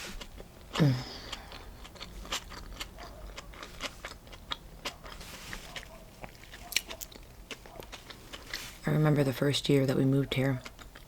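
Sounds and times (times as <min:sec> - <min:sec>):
chewing sandwich: 0:00.0 - 0:08.9, 0:10.3 - 0:11.0.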